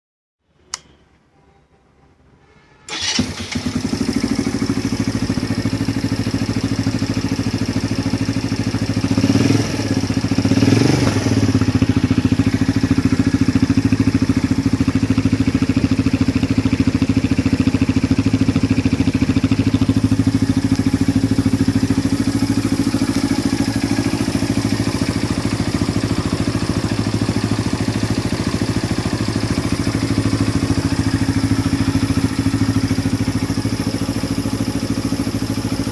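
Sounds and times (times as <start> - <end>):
motorcycle engine idling: 2.9 - 35.9.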